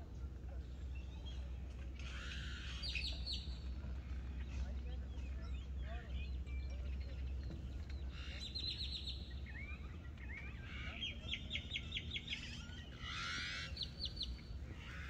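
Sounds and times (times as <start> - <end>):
birds singing: 0.1 - 15.0.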